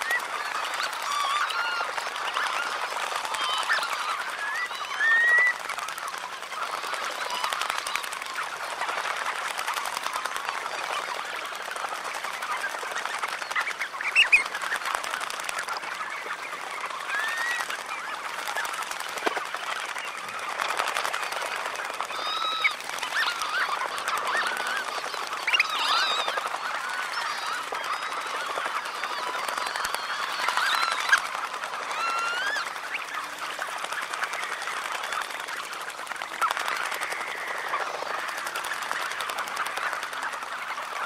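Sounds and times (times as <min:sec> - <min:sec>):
birds splashing in water: 0:00.0 - 0:41.0
flock of birds chattering: 0:00.0 - 0:41.0.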